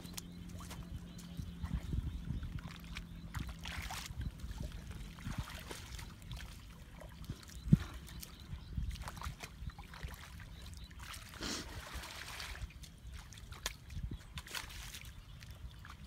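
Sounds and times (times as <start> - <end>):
muddy water splashing: 0.0 - 16.0.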